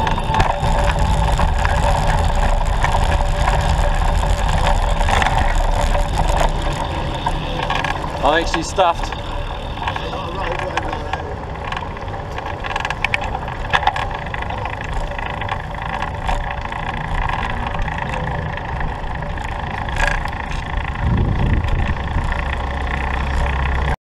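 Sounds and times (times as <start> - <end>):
road rolling rumble: 0.0 - 24.0
sharp clicks and rattles: 0.0 - 24.0.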